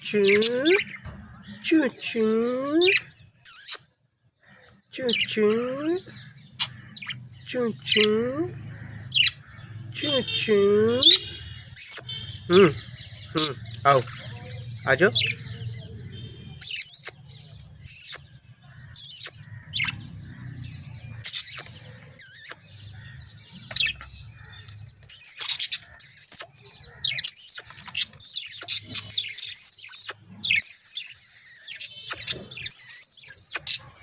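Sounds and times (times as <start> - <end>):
budgerigars chirping: 0.1 - 2.0, 2.9 - 3.8, 4.4 - 34.0.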